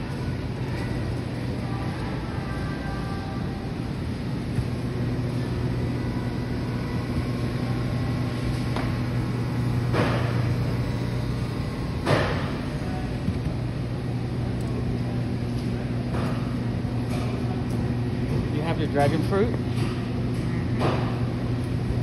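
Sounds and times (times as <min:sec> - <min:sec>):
grocery store background hum: 0:00.0 - 0:22.0.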